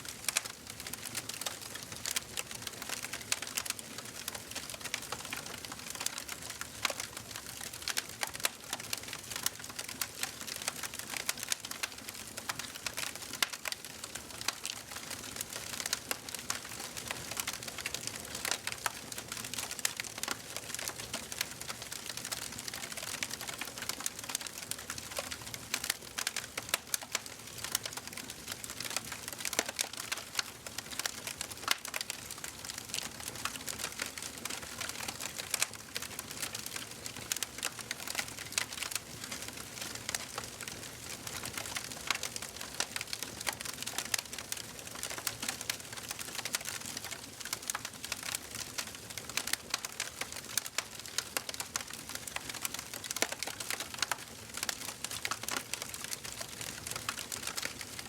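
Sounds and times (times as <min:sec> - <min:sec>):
fire crackling and popping: 0:00.1 - 0:58.0.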